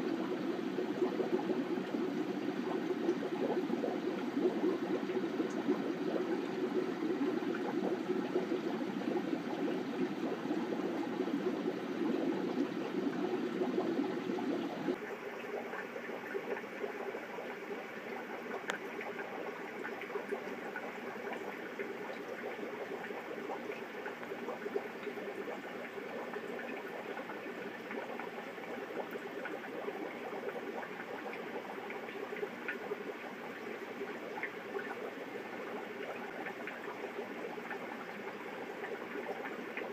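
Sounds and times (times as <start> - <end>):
aquarium filter bubbling: 0.0 - 39.9.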